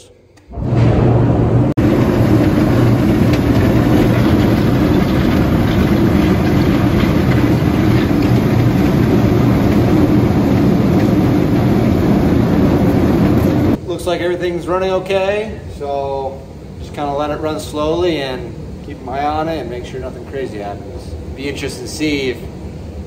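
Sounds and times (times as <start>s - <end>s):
constant low hum: 0.0s - 23.0s
conveyor mechanical rattle: 0.6s - 23.0s.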